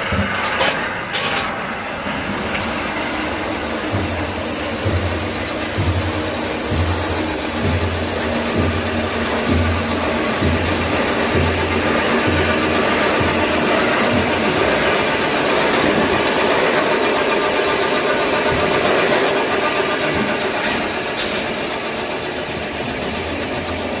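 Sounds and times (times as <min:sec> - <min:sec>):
machinery running: 0:00.0 - 0:24.0.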